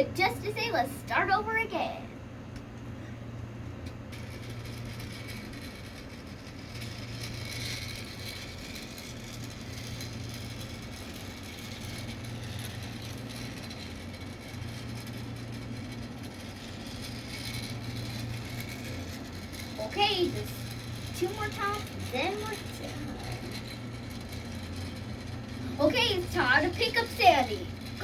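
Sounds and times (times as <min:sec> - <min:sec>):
toy train motor hum: 0:00.0 - 0:28.0.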